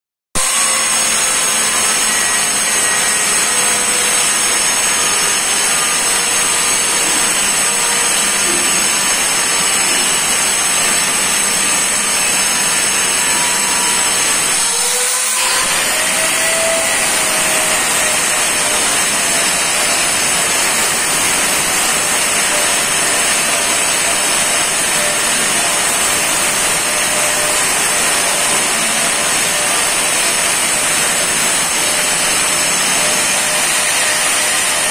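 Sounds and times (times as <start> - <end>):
angle grinder grinding stone: 0.4 - 34.9.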